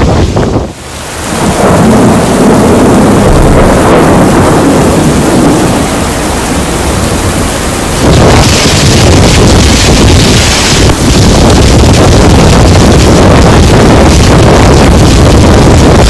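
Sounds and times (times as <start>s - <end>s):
deep rumble: 0.0s - 16.0s
heavy rain pouring: 0.0s - 16.0s.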